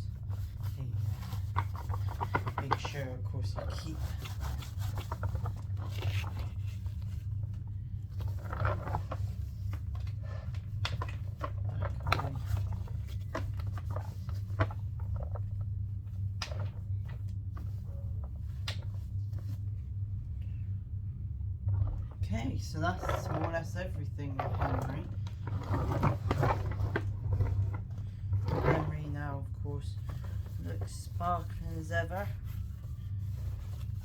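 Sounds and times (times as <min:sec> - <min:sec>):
cloth wiping plastic: 0:00.0 - 0:19.9, 0:21.7 - 0:34.0
steady low hum: 0:00.0 - 0:34.0.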